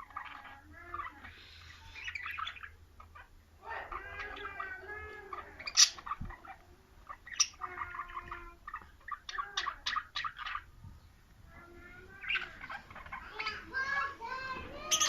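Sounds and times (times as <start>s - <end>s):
lovebirds chirping and squawking: 0.0s - 15.0s.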